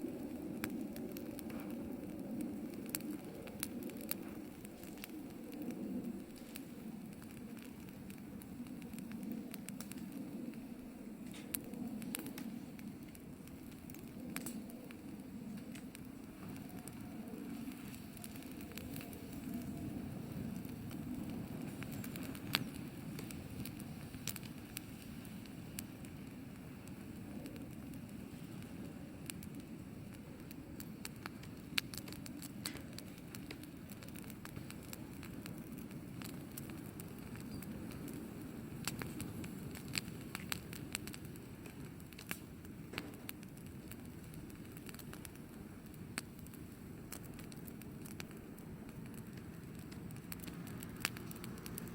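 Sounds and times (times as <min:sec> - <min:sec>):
fire crackling and popping: 0:00.0 - 0:51.9
fire flame rushing: 0:00.0 - 0:51.9.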